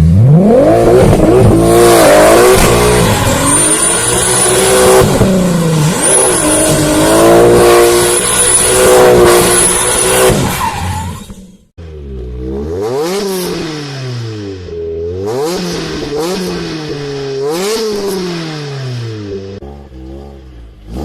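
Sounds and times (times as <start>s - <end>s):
car engine revving: 0.0s - 10.8s, 11.8s - 21.0s.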